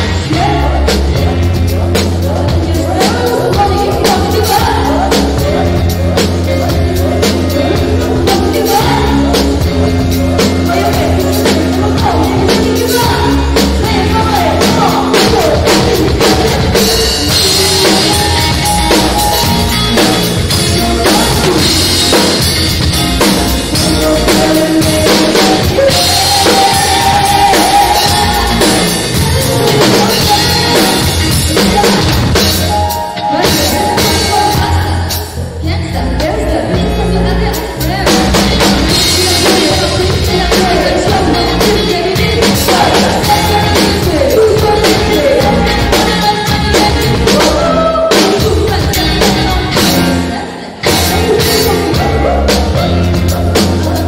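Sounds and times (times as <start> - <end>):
drum kit beat: 0.0 - 54.0
live band playing pop-funk: 0.0 - 54.0
person singing: 0.0 - 54.0.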